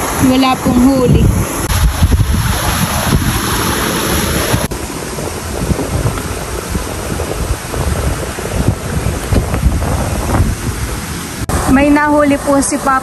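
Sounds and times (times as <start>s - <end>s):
water rushing through sluice: 0.0s - 13.0s
wind buffeting microphone: 0.0s - 13.0s.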